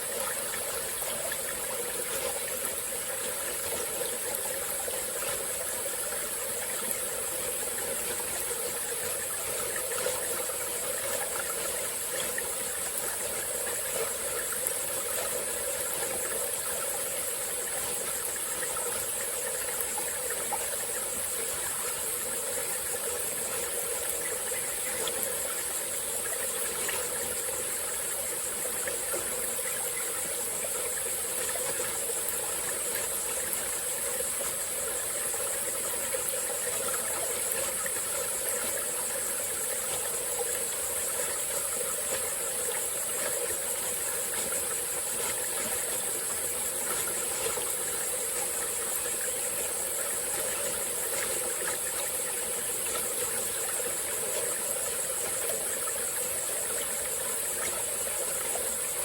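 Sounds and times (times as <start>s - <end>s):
forest stream flowing: 0.0s - 59.0s
high-pitched insect chorus: 0.0s - 59.0s.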